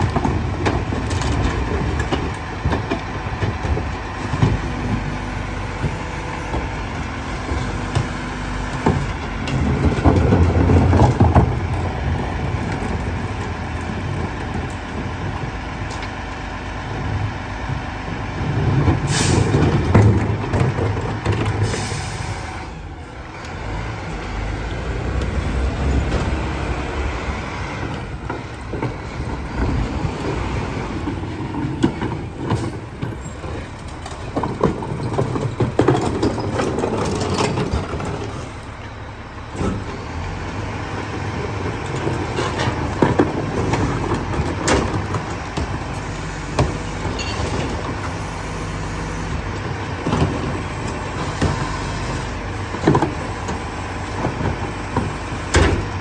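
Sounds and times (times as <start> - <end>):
trash bins knocking and banging: 0.0 - 15.9, 18.1 - 22.2, 25.0 - 27.2, 27.8 - 38.6, 40.8 - 48.2, 49.4 - 56.0
garbage truck engine running: 0.0 - 56.0.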